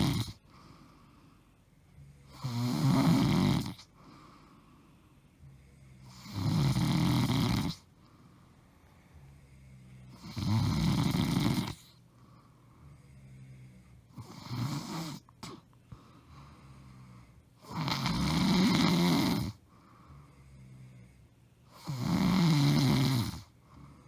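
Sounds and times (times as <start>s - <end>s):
woman snoring: 0.0s - 1.1s, 2.0s - 4.6s, 5.4s - 7.9s, 9.2s - 12.0s, 12.8s - 15.6s, 16.4s - 24.0s
quiet breathing: 0.0s - 17.8s, 18.9s - 22.1s, 23.2s - 24.0s.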